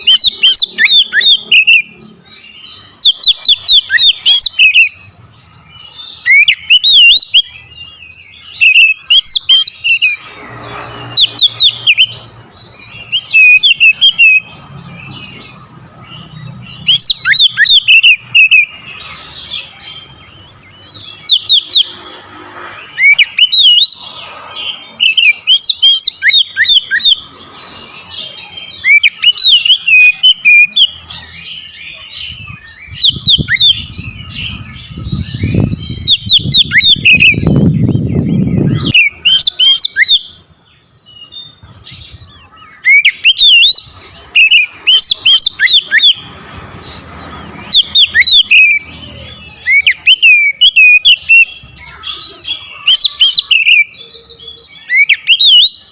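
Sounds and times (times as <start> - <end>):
bird singing whistled notes: 0.0 - 55.9.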